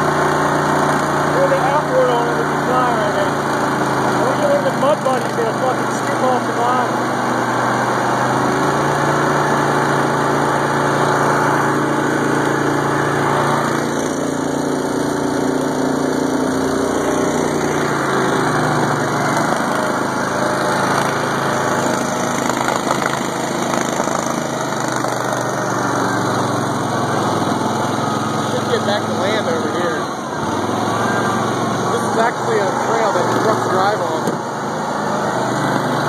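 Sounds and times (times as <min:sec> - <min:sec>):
small engine running: 0:00.0 - 0:36.0.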